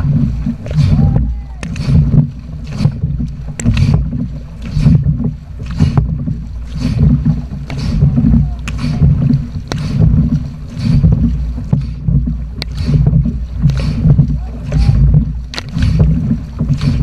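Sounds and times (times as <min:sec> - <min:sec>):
low rumble of water and wind: 0:00.0 - 0:17.0
paddles splashing water: 0:00.0 - 0:17.0.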